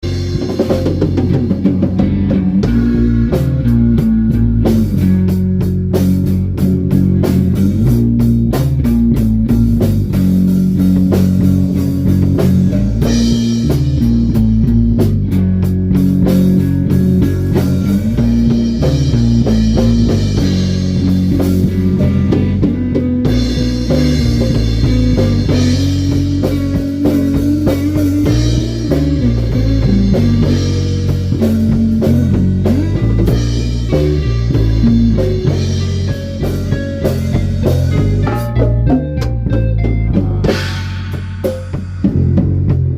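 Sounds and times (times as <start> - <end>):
drum kit with cymbals: 0.0 - 42.9
guitar riffs: 0.0 - 42.9.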